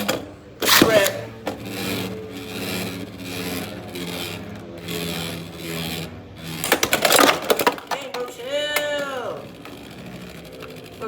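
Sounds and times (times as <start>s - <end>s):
spinning tops whirring: 0.0s - 11.0s
tops scraping rasp: 0.0s - 11.0s.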